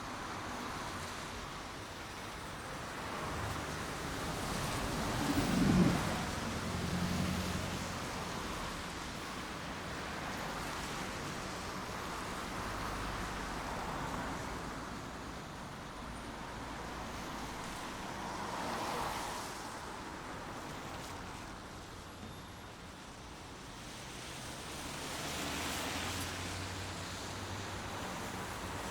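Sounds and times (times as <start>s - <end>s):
steady rain: 0.1s - 28.9s.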